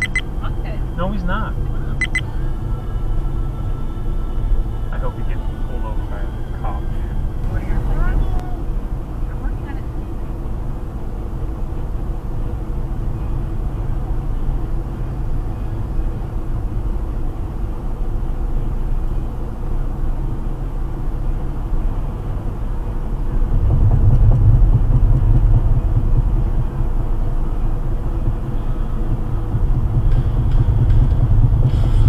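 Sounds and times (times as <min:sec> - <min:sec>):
car road and engine noise: 0:00.0 - 0:32.0.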